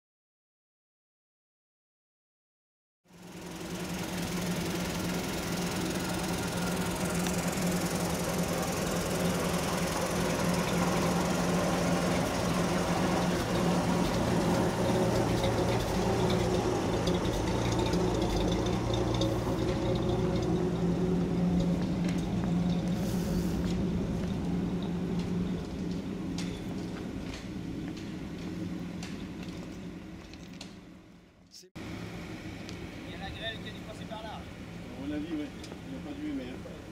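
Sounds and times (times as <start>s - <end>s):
truck engines idling: 3.1s - 36.9s.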